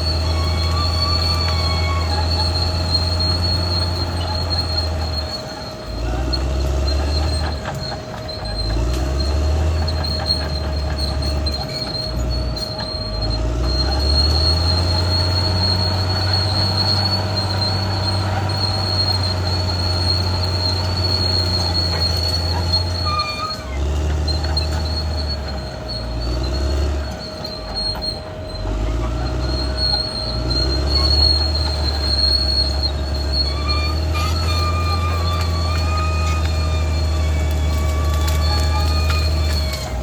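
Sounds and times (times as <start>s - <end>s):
bulldozer diesel engine under load: 0.0s - 40.0s
steel tracks squealing: 0.0s - 40.0s.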